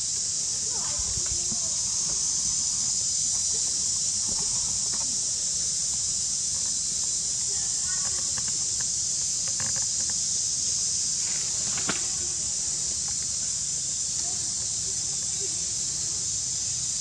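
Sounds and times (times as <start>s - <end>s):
insect chorus hissing: 0.0s - 17.0s.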